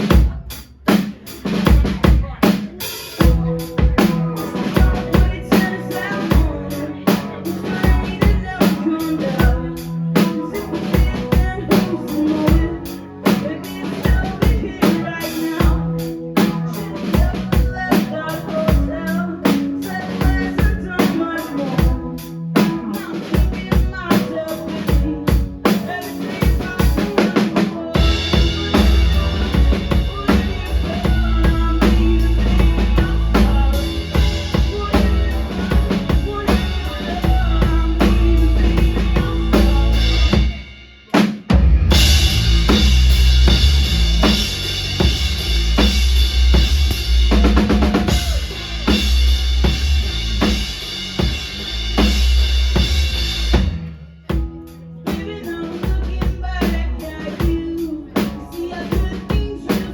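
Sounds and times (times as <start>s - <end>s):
drum kit kick and snare: 0.0s - 59.9s
live rock band playing: 0.0s - 59.9s.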